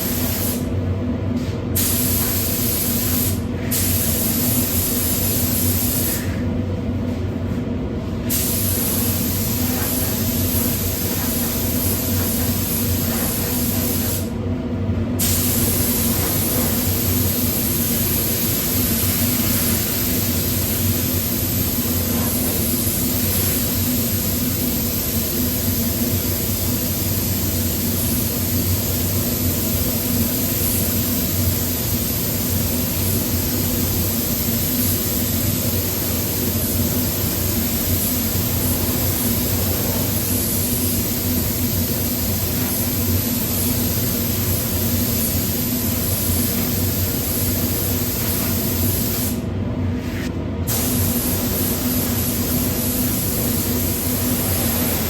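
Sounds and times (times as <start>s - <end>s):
paint spray gun hissing: 0.0s - 0.7s, 1.8s - 6.2s, 8.3s - 14.3s, 15.2s - 49.4s, 50.6s - 55.0s
steady low hum: 0.0s - 55.0s.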